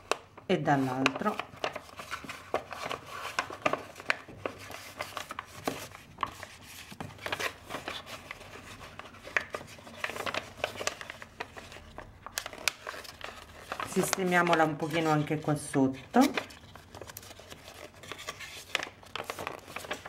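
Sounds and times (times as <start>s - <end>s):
paper rustling and crackling: 0.0s - 20.0s.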